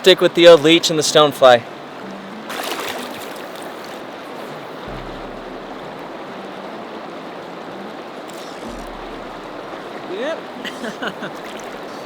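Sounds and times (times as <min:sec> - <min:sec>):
river current rushing: 0:00.3 - 0:12.0.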